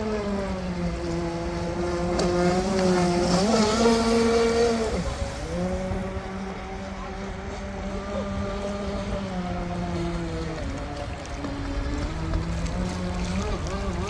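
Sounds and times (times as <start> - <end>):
electric boat motor whine: 0.0 - 14.0.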